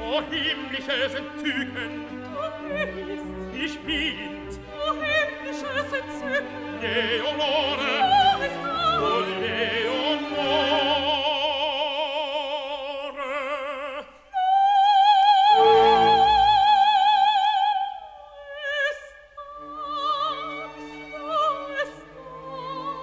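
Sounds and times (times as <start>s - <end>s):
operatic singing with vibrato: 0.0s - 23.0s
soft orchestra: 0.0s - 23.0s.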